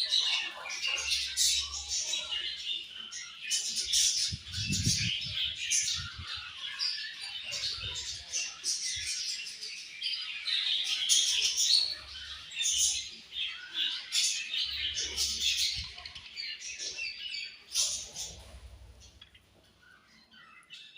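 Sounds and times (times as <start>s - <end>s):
budgerigars chirping and warbling: 0.0s - 20.9s.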